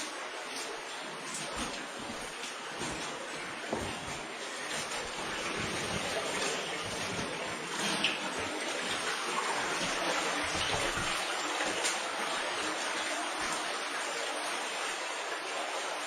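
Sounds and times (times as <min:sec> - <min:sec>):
cave stream rushing water: 0:00.0 - 0:16.0.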